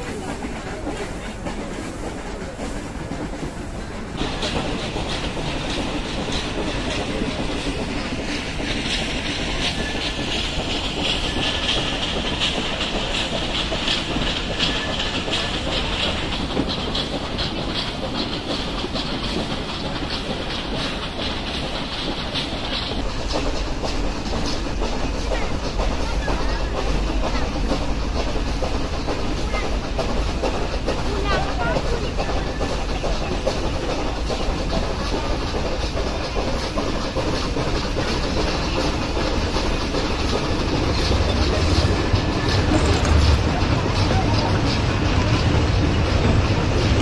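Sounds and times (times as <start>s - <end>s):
train wheels clacking over rail joints: 0.0s - 47.0s.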